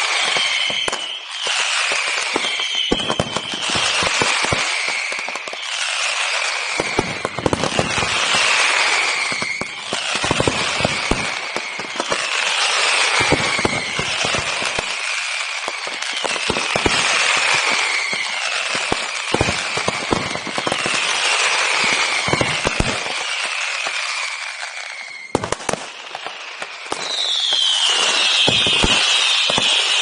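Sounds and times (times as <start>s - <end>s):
fireworks bangs and crackles: 0.0s - 30.0s
high falling firework hiss: 0.0s - 30.0s.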